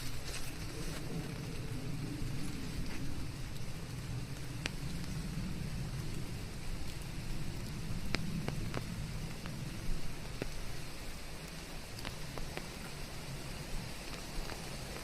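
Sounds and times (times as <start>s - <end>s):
low rumble: 0.0s - 15.0s
sharp raindrops landing close: 0.0s - 15.0s
steady rain hiss: 0.0s - 15.0s.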